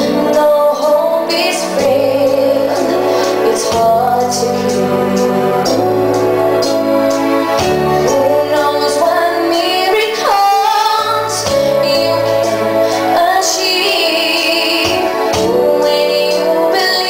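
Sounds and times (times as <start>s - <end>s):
instrumental backing music: 0.0s - 17.0s
woman singing ballad over pa: 0.0s - 17.0s.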